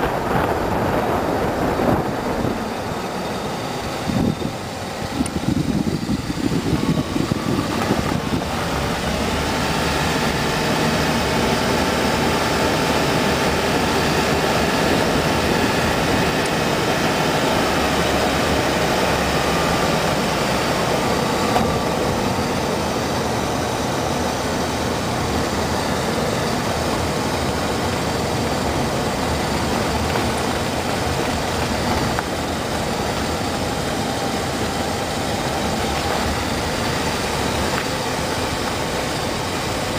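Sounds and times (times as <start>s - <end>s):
car engine: 0.0s - 39.9s
tyre noise on road: 0.0s - 39.9s.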